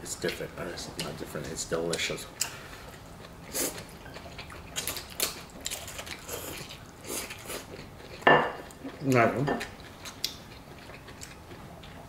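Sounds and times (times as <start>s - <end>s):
people chewing noodles: 0.2s - 12.0s.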